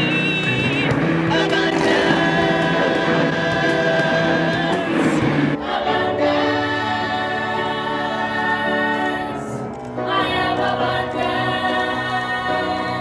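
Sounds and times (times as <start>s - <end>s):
choir singing long notes: 0.0s - 13.0s.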